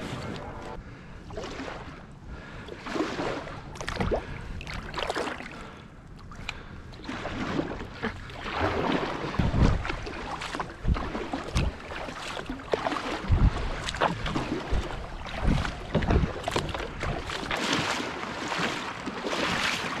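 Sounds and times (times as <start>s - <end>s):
paddle splashing in water: 0.0s - 20.0s.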